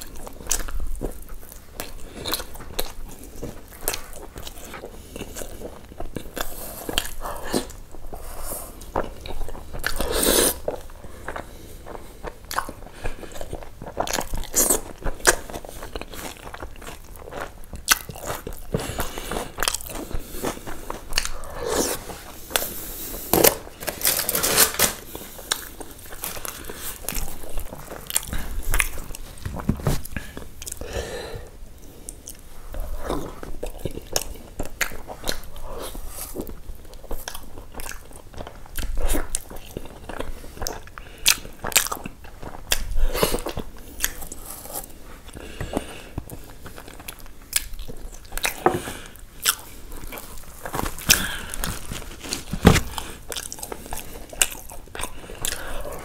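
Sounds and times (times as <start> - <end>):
person chewing chicken: 0.0 - 31.2, 31.8 - 56.0.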